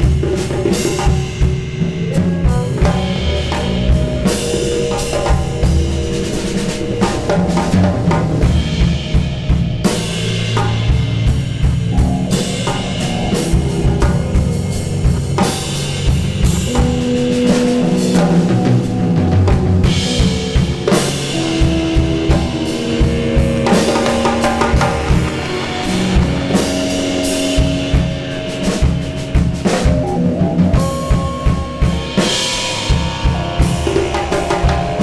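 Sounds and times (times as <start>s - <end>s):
held low tones: 0.0s - 35.0s.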